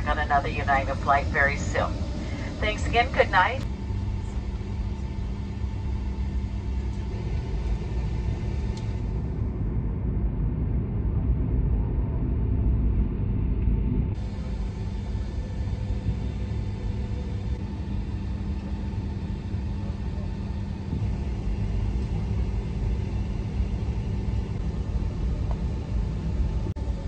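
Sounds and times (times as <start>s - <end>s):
aircraft cabin rumble: 0.0s - 27.0s
jet engines idling hum: 0.0s - 27.0s.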